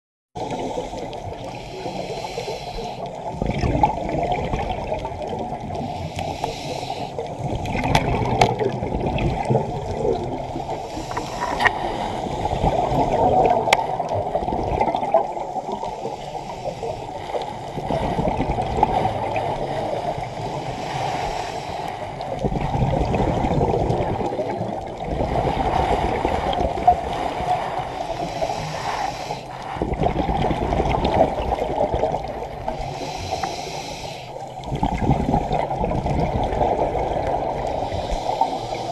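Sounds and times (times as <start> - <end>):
diver bubbles hissing: 0.4 - 38.9
underwater rushing and gurgling: 0.4 - 38.9.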